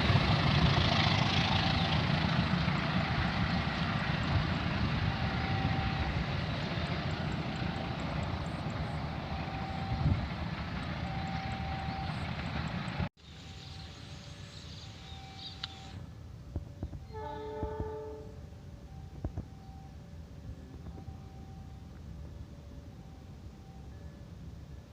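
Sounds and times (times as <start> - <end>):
train rumbling past: 0.0 - 24.9.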